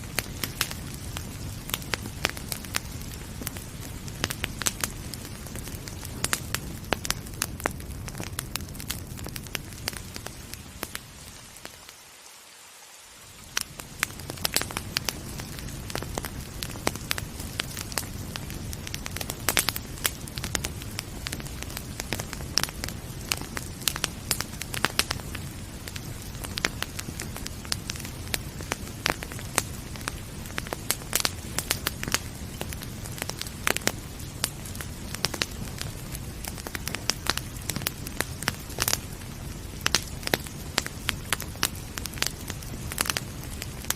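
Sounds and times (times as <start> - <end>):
fire crackling and popping: 0.0 - 12.2, 13.2 - 43.9
gentle rain: 0.0 - 43.9.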